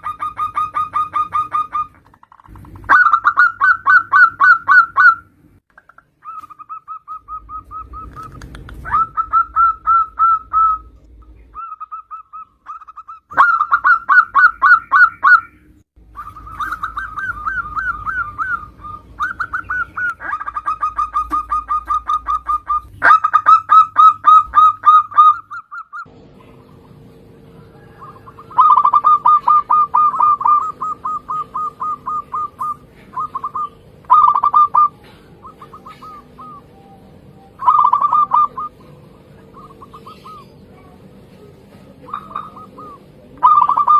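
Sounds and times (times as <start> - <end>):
doves cooing rapidly: 0.0 - 5.3, 6.1 - 43.9.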